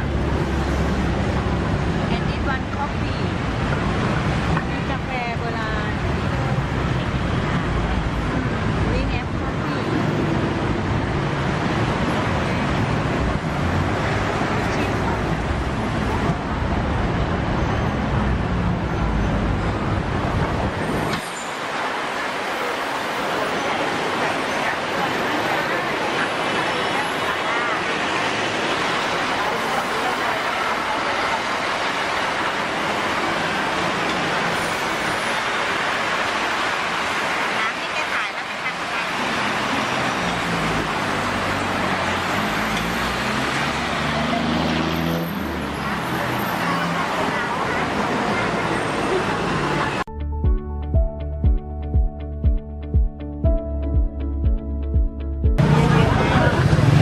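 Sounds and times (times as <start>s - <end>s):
bus engine rumbling: 0.0s - 57.0s
road traffic passing: 0.0s - 57.0s.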